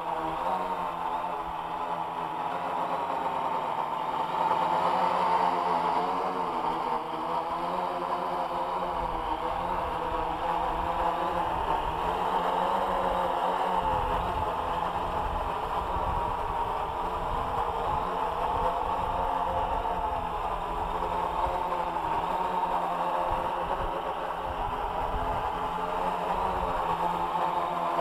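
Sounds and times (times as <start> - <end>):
drone propellers buzzing: 0.0 - 28.0.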